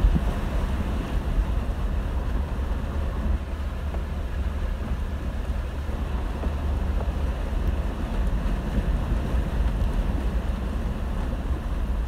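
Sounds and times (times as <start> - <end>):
engine and tyres rumbling: 0.0 - 12.0
wind: 0.0 - 12.0.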